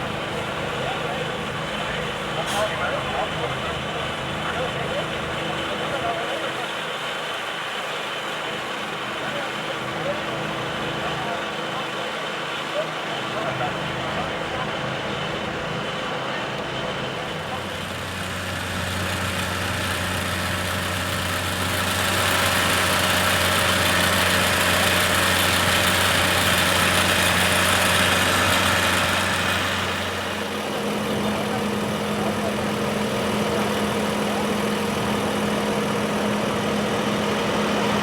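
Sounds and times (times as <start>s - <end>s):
fire engine motor idling: 0.0s - 38.0s.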